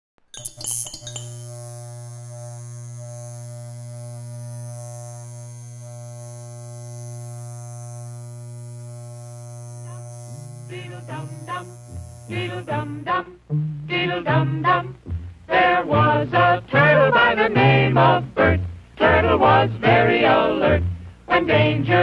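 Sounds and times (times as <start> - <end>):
electrical mains hum: 0.4 - 22.0
faint high hiss: 1.0 - 22.0.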